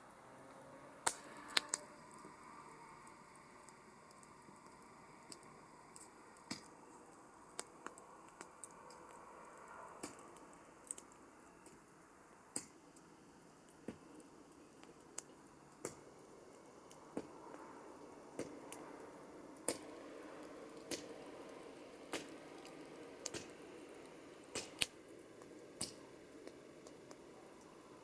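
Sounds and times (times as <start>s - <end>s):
campfire flames hissing: 0.0s - 28.0s.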